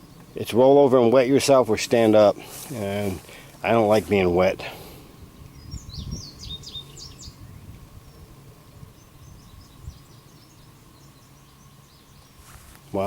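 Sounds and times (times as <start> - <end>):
faint steady hum: 0.0 - 13.0
low wind-like rumble: 0.0 - 13.0
small birds chirping: 0.0 - 13.0.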